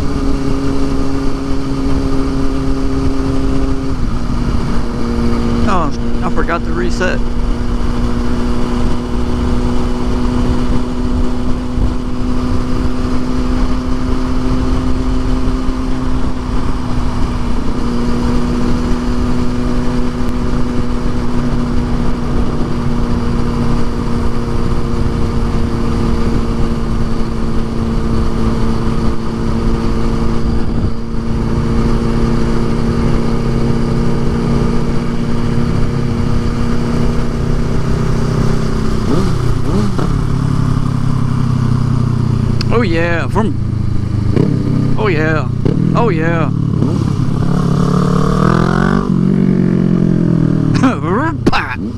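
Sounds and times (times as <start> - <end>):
motorcycle engine cruising: 0.0 - 51.9.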